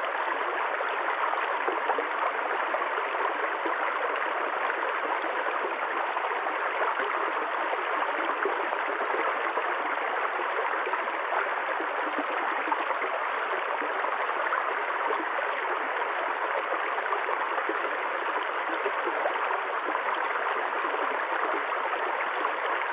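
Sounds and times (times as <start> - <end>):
running water: 0.0 - 22.9.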